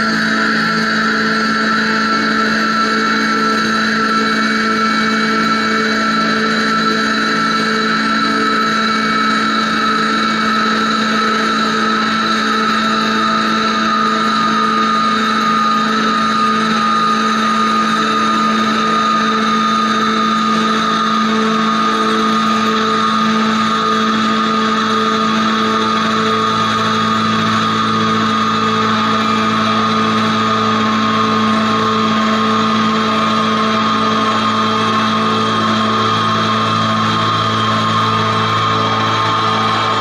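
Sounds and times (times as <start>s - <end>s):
instruments sustaining a drone chord: 0.0s - 40.0s.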